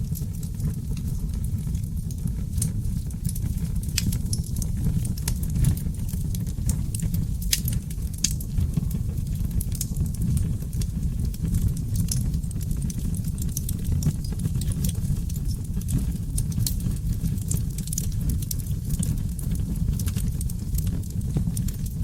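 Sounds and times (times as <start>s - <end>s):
logs burning with crackles: 0.0s - 22.0s.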